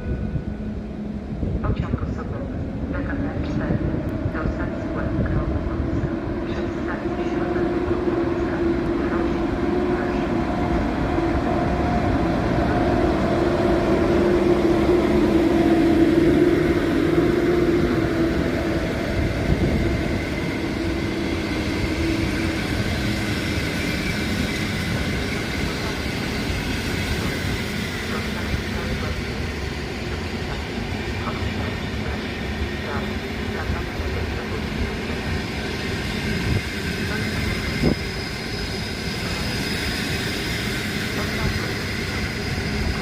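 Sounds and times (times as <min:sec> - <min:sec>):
electric locomotive hum: 0:00.0 - 0:43.0
train coaches rolling on rails: 0:01.7 - 0:43.0.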